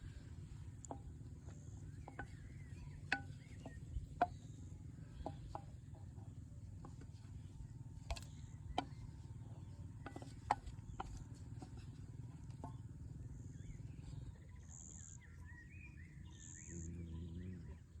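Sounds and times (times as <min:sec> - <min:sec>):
bird-like chirping: 0:00.0 - 0:18.0.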